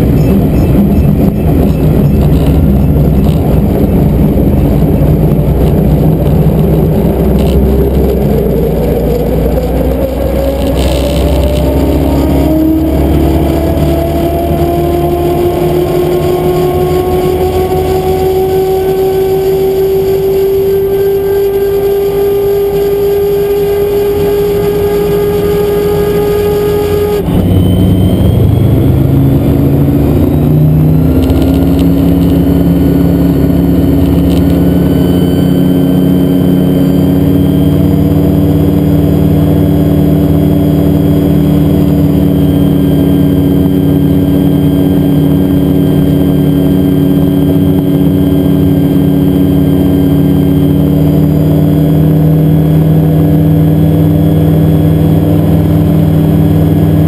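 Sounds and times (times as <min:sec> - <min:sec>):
gyroplane engine and propeller: 0:00.0 - 0:57.0.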